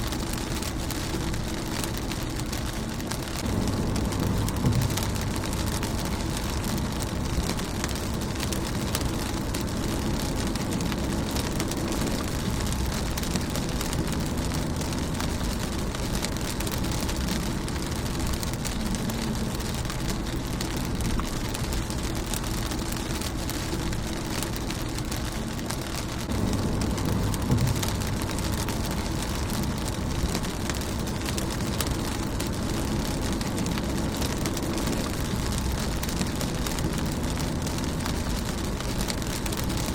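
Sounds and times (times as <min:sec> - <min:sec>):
low rumble: 0:00.0 - 0:39.9
rain on a car: 0:00.0 - 0:39.9.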